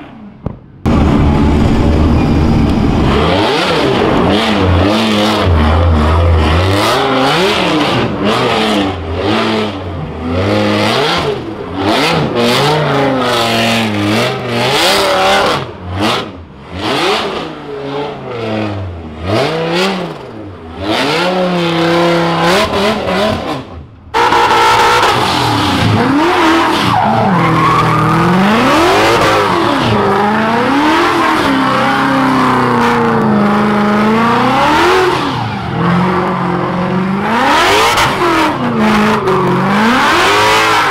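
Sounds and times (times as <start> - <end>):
car engine revving: 0.8 - 40.9.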